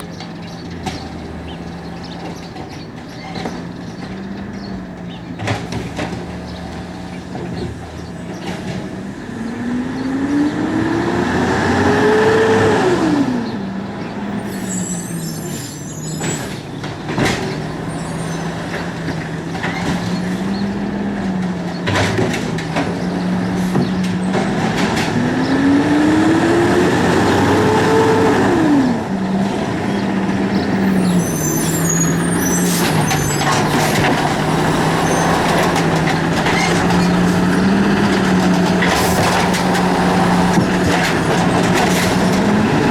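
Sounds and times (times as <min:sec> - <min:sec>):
garbage truck diesel engine: 0:00.0 - 0:42.9.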